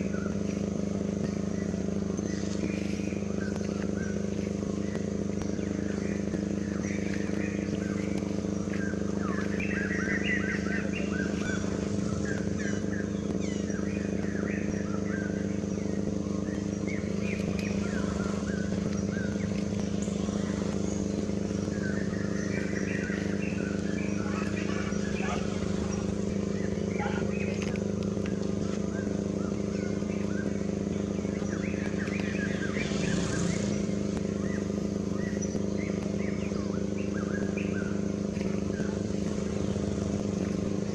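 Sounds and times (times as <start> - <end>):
engine idling hum: 0.0 - 40.9.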